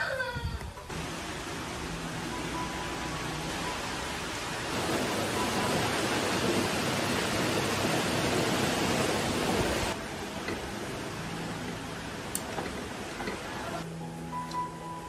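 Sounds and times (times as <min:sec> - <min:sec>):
falling water rushing: 0:00.9 - 0:13.9.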